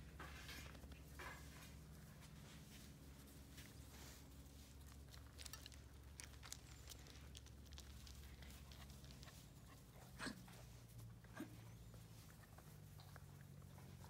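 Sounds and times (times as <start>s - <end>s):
puppies playing on grass: 0.0s - 14.0s.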